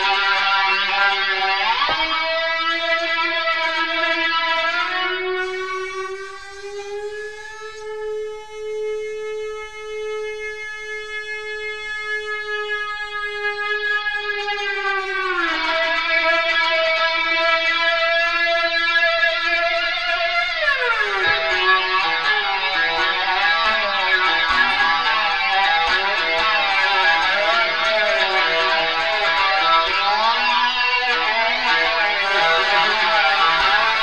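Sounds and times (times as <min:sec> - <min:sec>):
slide guitar sustained note: 0:00.0 - 0:34.0.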